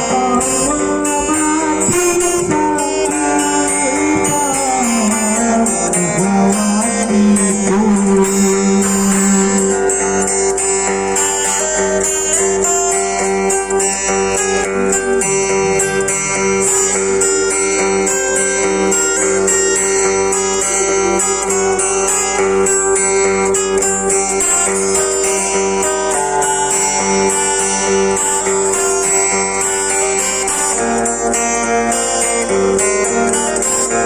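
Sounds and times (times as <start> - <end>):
acoustic guitar playing: 0.0 - 34.0
steady held tone: 0.0 - 34.0.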